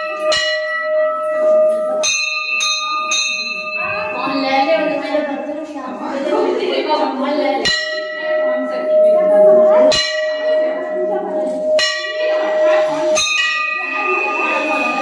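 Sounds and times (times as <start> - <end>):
bell ringing: 0.0 - 15.0.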